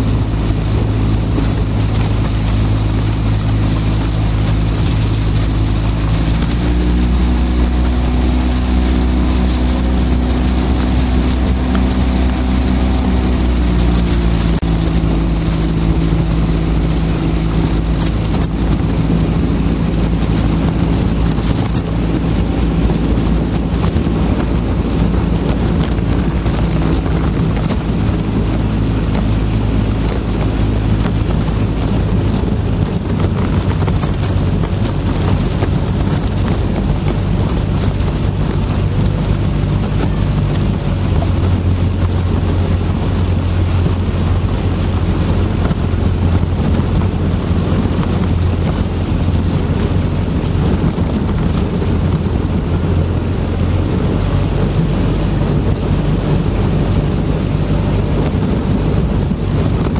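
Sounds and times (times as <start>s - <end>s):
boat engine running: 0.0s - 59.9s
wind noise on microphone: 0.0s - 59.9s.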